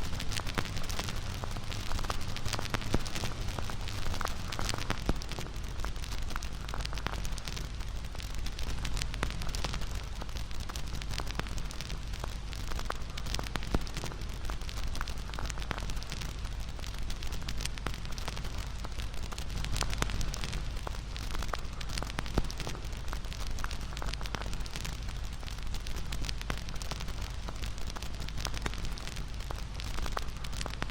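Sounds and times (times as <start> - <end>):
bonfire crackling and popping: 0.0 - 30.9
low rumble of flames: 0.0 - 30.9.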